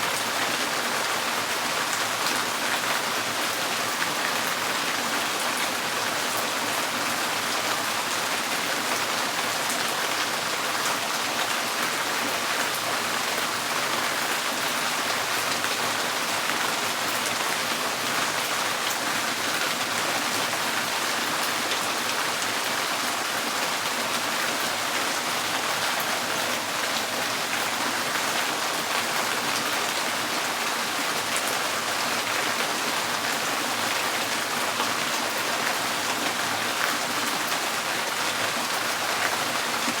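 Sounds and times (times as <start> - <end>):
rain on a tin roof: 0.0 - 40.0.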